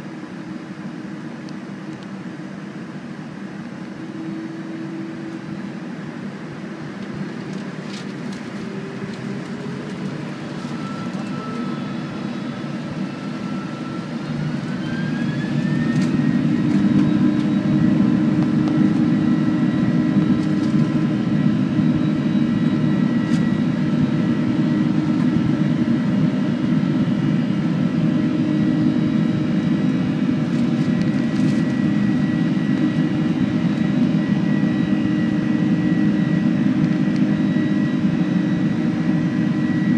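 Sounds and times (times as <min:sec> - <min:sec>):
jet engine roar: 0:00.0 - 0:39.9
jet engine whine: 0:00.0 - 0:39.9.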